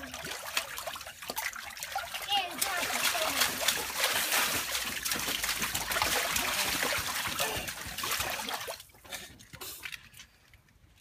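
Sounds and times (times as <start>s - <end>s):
hands slapping water splashing: 0.0s - 10.3s
water drips and sloshes: 0.0s - 11.0s.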